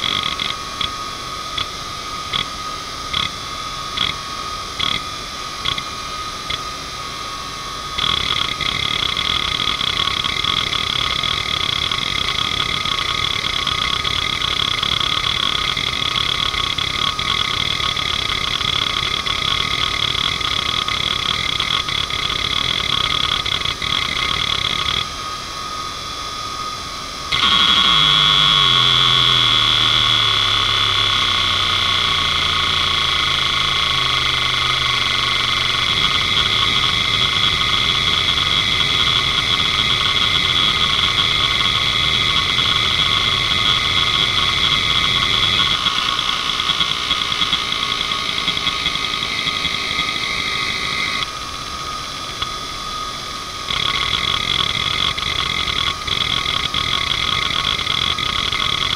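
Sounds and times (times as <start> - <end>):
hard drive rattle: 0.0 - 6.8, 7.9 - 25.2, 27.3 - 51.4, 52.2 - 58.9
hard drive seeking buzz: 0.0 - 58.9
hard drive whine: 0.0 - 58.9.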